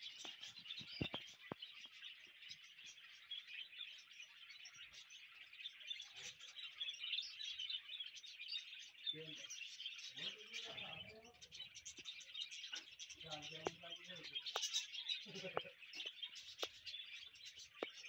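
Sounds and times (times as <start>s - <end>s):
budgerigars chattering: 0.0s - 18.0s.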